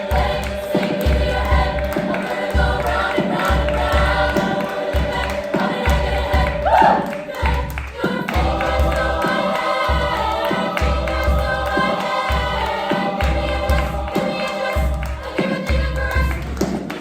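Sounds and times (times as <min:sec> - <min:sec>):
low pulsing beat: 0:00.0 - 0:16.6
choir singing in parts: 0:00.0 - 0:17.0.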